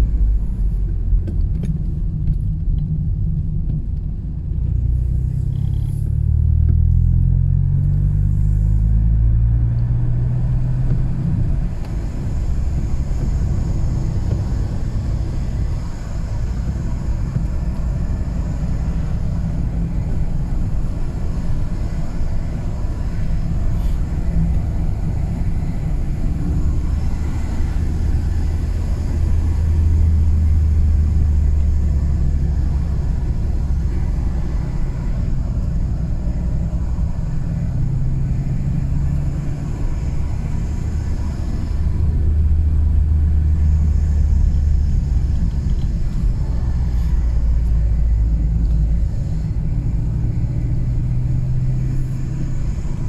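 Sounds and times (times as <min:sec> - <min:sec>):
car engine drone: 0:00.0 - 0:53.0
road rumble: 0:00.0 - 0:53.0.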